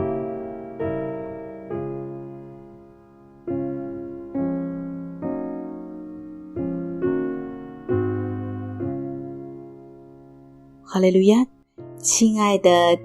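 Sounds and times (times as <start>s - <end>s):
slow gentle piano chords: 0.0s - 13.0s.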